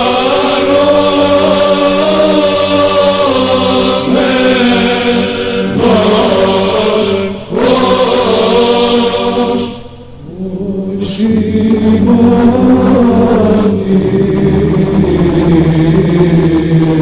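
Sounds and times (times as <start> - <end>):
choir chanting long held notes: 0.0 - 17.0.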